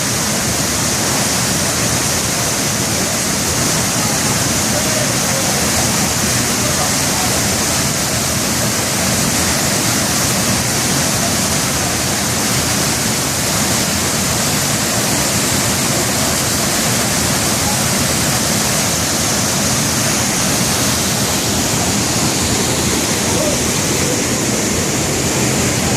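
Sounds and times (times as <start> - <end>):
waterfall crashing: 0.0 - 25.9.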